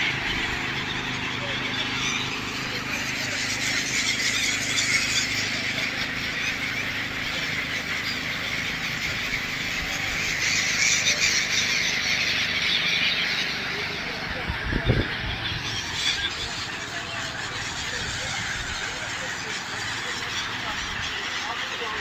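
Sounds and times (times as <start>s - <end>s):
flock of gulls calling: 0.0s - 22.0s
steady low hum: 0.0s - 22.0s.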